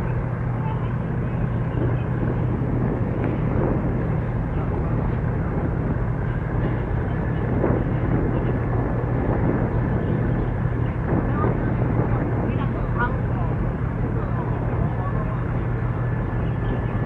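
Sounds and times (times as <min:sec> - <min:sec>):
outdoor rumble and hiss: 0:00.0 - 0:17.0
ship engines humming: 0:00.0 - 0:17.0.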